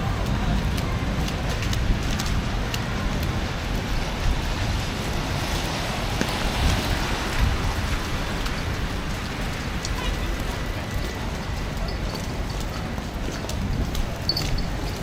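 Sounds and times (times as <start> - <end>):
continuous low rumble: 0.0 - 15.0
wet street hiss: 0.0 - 15.0.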